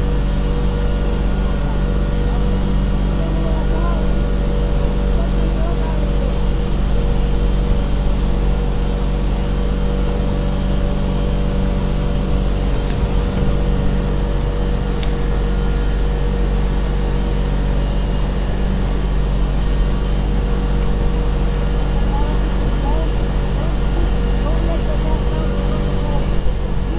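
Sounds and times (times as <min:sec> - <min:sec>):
motorboat engine running: 0:00.0 - 0:26.9.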